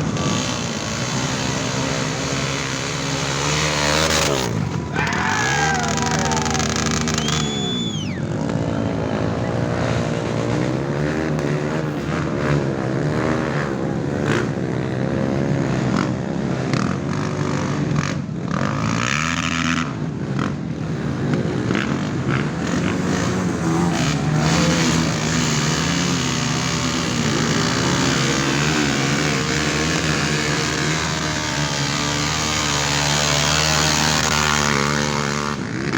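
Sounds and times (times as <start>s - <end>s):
off-road motorcycle engines revving: 0.0s - 35.9s.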